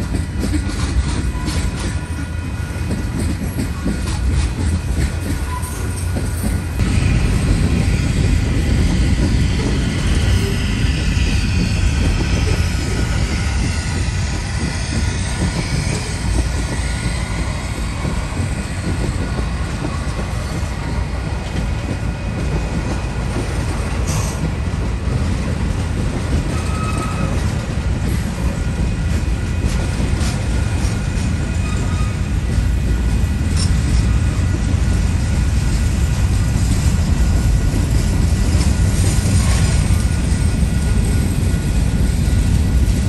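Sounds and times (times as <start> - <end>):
freight train wheels rumbling on rail: 0.0 - 43.0.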